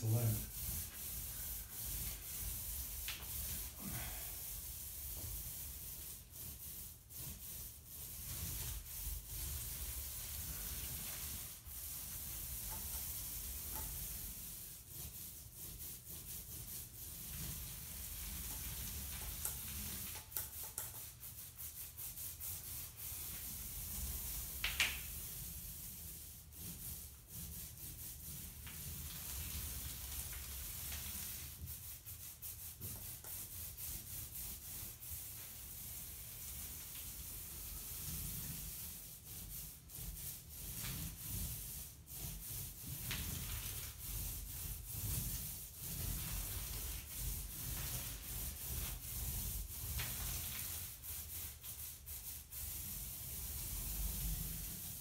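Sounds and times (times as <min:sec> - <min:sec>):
paint roller on wall: 0:00.0 - 0:55.0.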